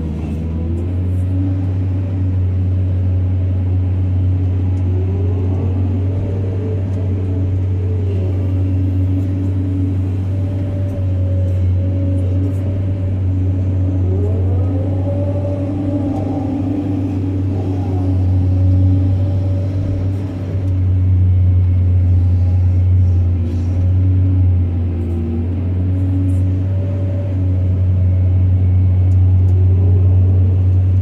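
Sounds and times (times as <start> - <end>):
diesel engine droning: 0.0 - 31.0
high whine: 2.4 - 31.0.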